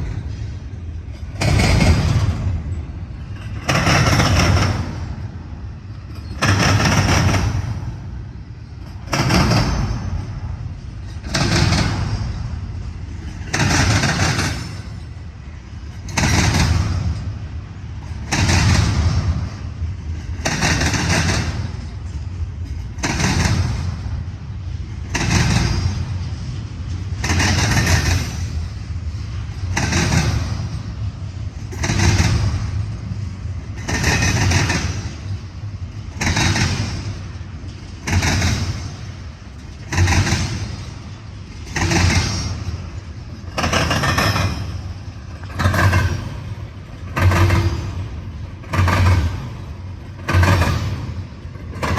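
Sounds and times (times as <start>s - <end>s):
freight train wheels clattering: 0.0s - 51.9s.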